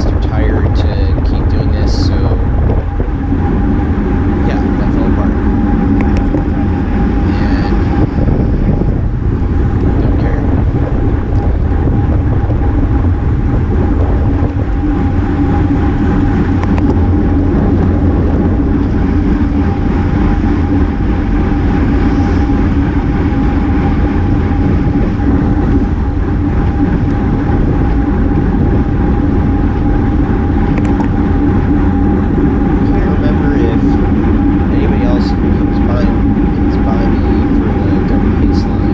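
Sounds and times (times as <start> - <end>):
constant hum: 0.0 - 38.9
wind and road rush: 0.0 - 38.9.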